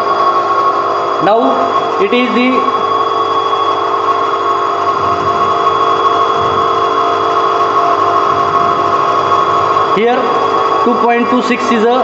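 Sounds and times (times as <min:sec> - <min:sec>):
electric motor hum and whine: 0:00.0 - 0:12.0.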